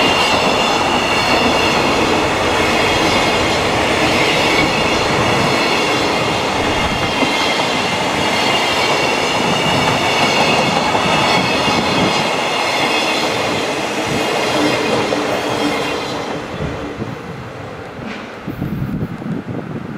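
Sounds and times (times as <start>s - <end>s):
high ringing rail tones: 0.0s - 19.1s
train wheels on rails: 0.0s - 19.6s.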